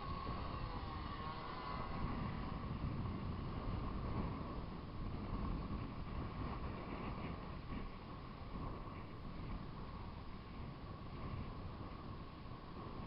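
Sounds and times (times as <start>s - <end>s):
distant model plane motor drone: 0.0s - 13.0s
wind buffeting microphone: 0.0s - 13.0s.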